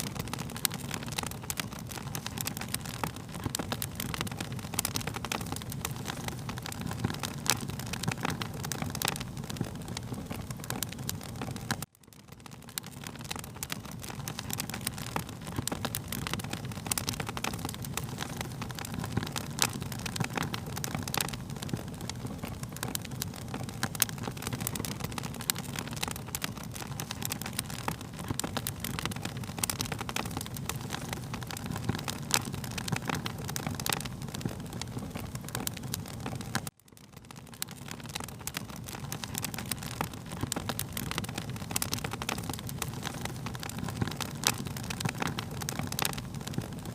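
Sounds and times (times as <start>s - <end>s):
low rumble of flames: 0.0s - 46.9s
wood fire crackling: 0.0s - 46.9s.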